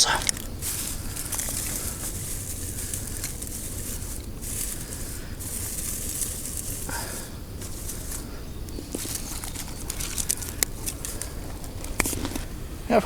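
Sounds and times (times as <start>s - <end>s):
campfire hissing: 0.0s - 13.0s
fire crackling: 0.0s - 13.0s.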